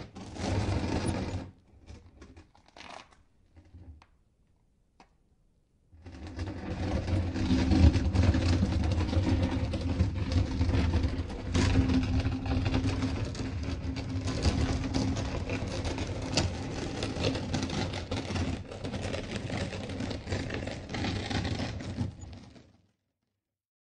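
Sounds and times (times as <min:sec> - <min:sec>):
stone grinding and rumbling: 0:00.0 - 0:02.5, 0:06.0 - 0:22.7.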